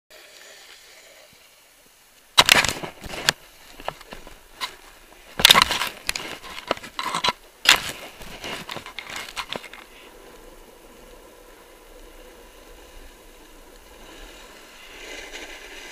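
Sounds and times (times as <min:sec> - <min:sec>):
snowboard scraping on snow: 0:02.4 - 0:15.9.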